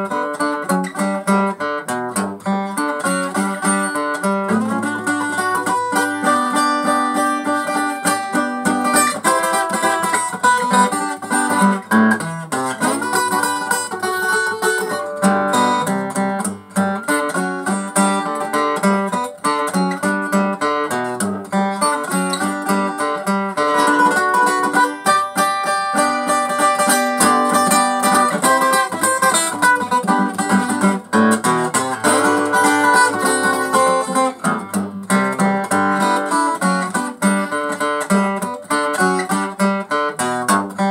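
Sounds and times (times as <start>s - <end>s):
acoustic guitar blues: 0.0s - 40.9s.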